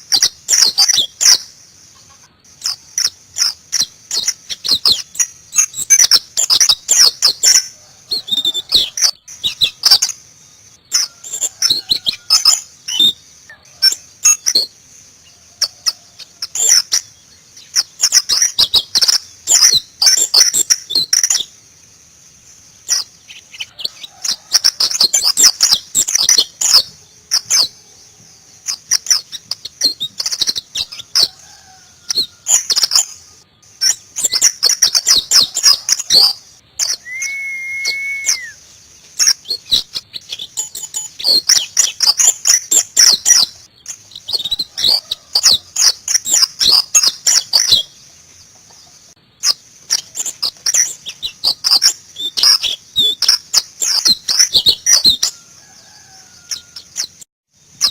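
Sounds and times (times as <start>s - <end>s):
bird twittering song: 0.0s - 57.9s.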